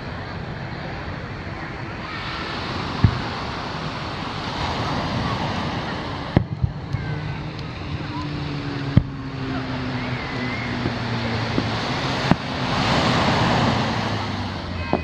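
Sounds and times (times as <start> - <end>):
low droning hum: 0.0 - 15.0
surf washing: 0.0 - 15.0
distant fireworks booming: 2.1 - 15.0.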